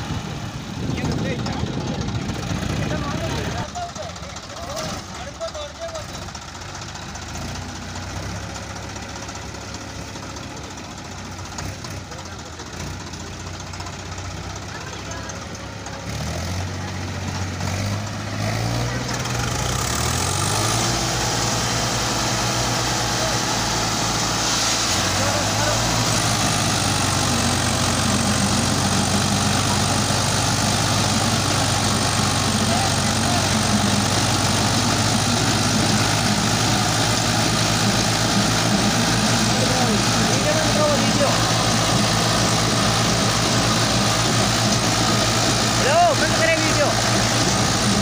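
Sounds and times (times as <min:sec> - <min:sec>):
diesel tractor engines labouring: 0:00.0 - 0:48.0.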